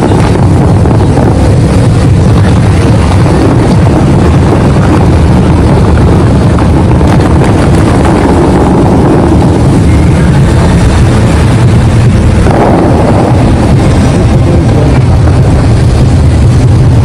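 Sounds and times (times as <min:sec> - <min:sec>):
fountain water jets rushing: 0:00.0 - 0:17.0
wind buffeting microphone: 0:00.0 - 0:17.0.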